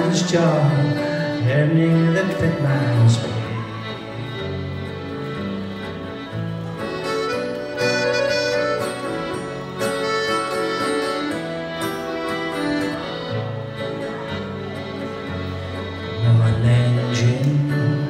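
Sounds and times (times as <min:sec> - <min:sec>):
accordion melody: 0:00.0 - 0:18.0
strummed acoustic guitar: 0:00.0 - 0:18.0.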